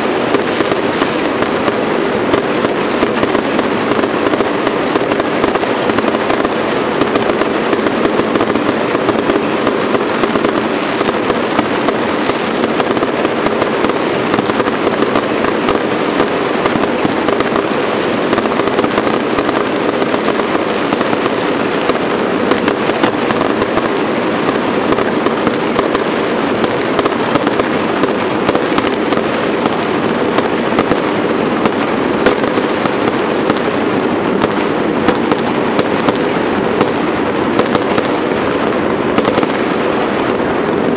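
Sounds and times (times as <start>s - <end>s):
fireworks barrage: 0.0s - 40.9s.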